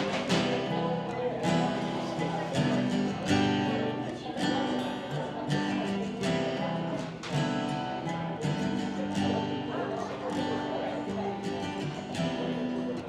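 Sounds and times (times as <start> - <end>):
guitar chords strummed: 0.0 - 13.0.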